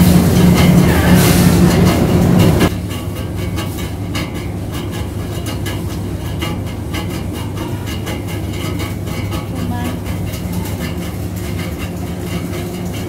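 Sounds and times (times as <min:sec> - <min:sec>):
loud rumble: 0:00.0 - 0:13.0
low hum of machinery: 0:00.0 - 0:13.0
shopping trolley wheels rattling: 0:00.0 - 0:13.0.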